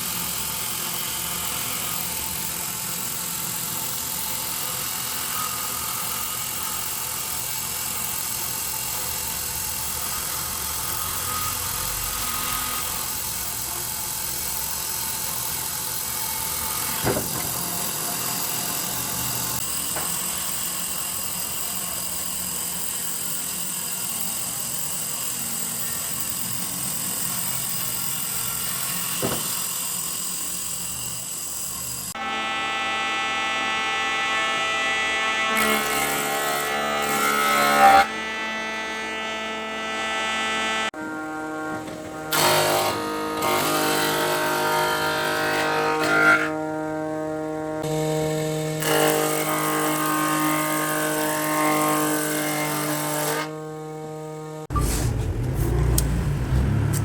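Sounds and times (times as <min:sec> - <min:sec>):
power tool motor running: 0:00.0 - 0:57.0.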